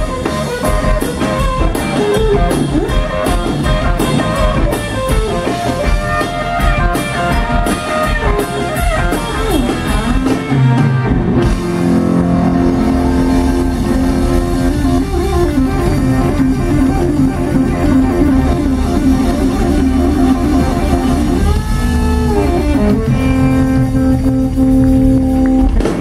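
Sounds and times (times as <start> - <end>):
drums and cymbals: 0.0 - 26.0
electric bass: 0.0 - 26.0
electric guitar: 0.0 - 26.0.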